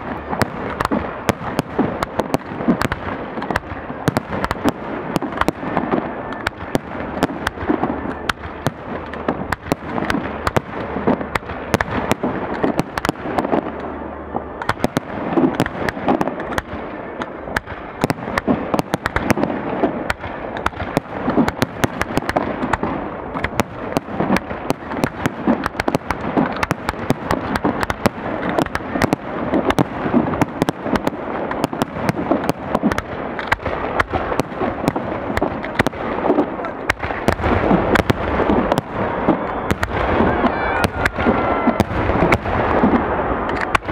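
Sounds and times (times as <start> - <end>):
fireworks bursting: 0.0 - 43.9
fireworks crackling and popping: 0.0 - 43.9
rumble of explosions: 0.0 - 43.9.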